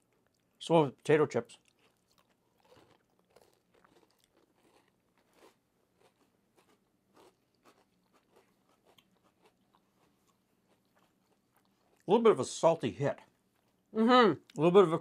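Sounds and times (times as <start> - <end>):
crunching and chewing cookies: 0.0 - 15.0.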